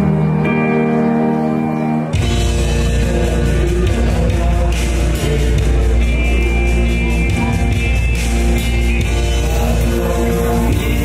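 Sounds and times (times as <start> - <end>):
backing music with heavy bass: 0.0 - 11.0
man singing into microphone: 2.1 - 11.0.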